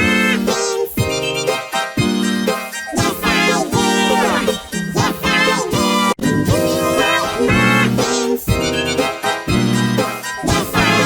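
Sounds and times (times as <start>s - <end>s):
children's song with effects: 0.0s - 11.0s.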